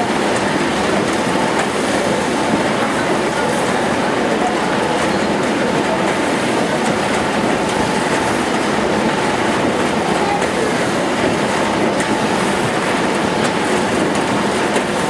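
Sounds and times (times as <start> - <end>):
die cutting machine running: 0.0 - 15.0.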